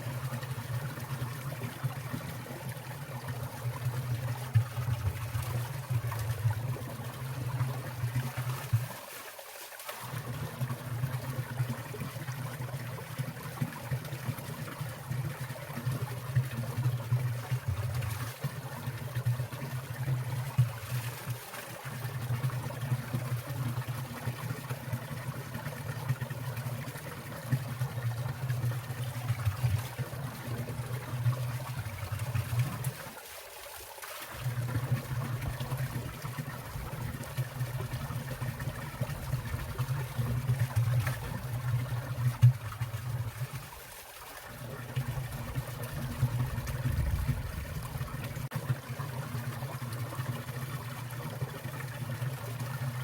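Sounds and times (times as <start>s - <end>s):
stream water splashing: 0.0s - 53.0s.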